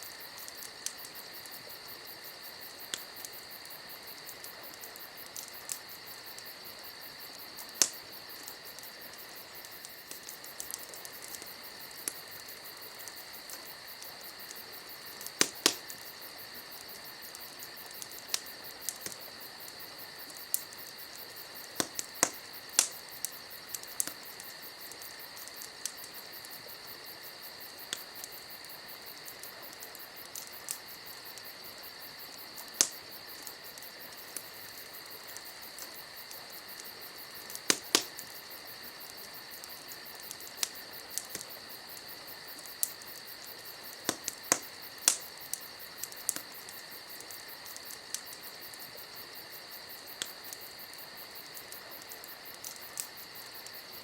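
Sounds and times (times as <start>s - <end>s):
campfire crackling and popping: 0.0s - 54.0s
insects trilling: 0.0s - 54.0s.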